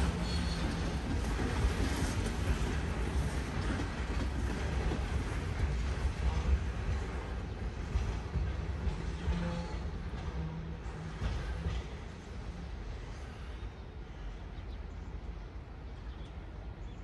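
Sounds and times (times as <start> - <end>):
freight train wheels rumbling on track: 0.0 - 17.0.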